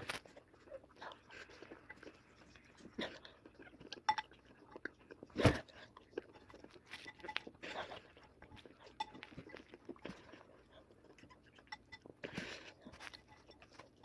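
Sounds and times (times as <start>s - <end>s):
breathy mouth sounds: 0.0s - 14.0s
faint chewing of cereal: 0.0s - 14.0s.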